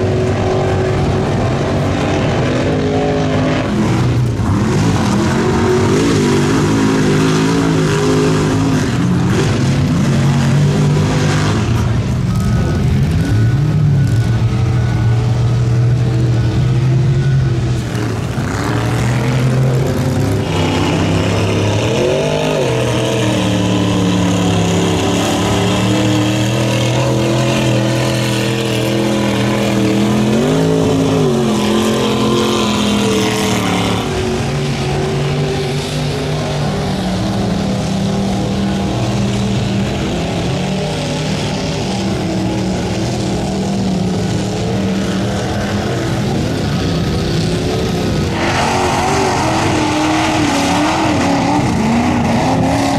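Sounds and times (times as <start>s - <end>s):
truck engines revving high: 0.0s - 52.9s.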